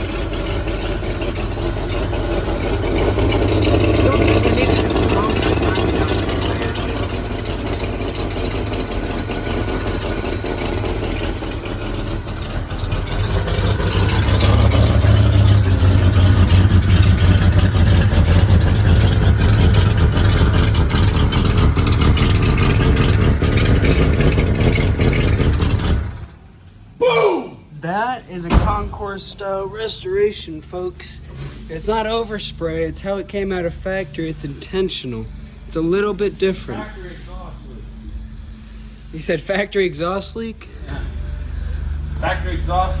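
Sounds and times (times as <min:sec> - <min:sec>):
car engine idling: 0:00.0 - 0:27.0, 0:27.8 - 0:43.0.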